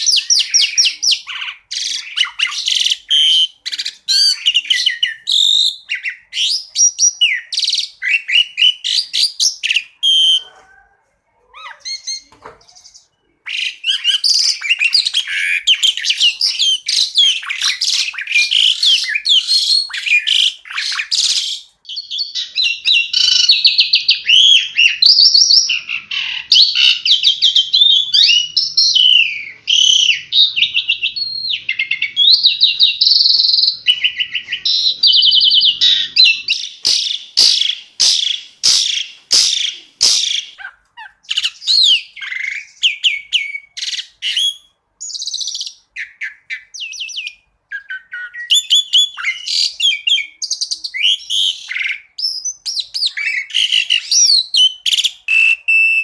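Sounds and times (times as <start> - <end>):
songbird chirps and trills: 0.0 - 56.0.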